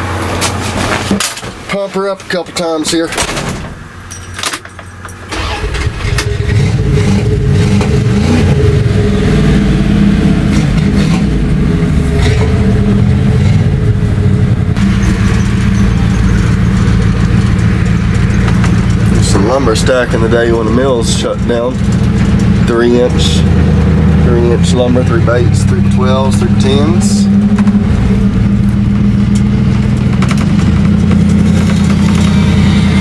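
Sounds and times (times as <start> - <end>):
engine starting and idling: 2.6 - 33.0.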